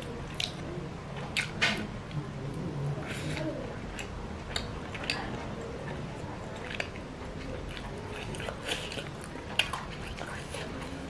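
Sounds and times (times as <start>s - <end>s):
chewing with wet mouth sounds: 0.0s - 11.0s.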